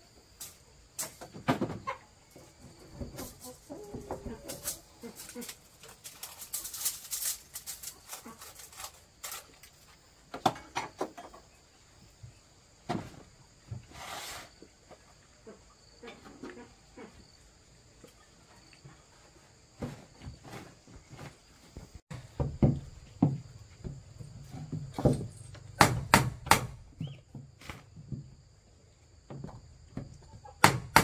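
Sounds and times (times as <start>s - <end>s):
faint insect drone: 0.0s - 30.9s.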